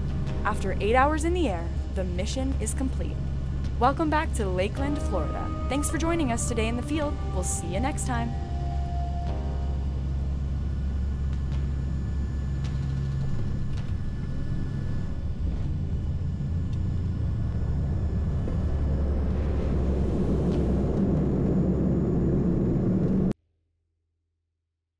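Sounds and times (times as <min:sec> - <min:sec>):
turboprop engines droning: 0:00.0 - 0:23.4.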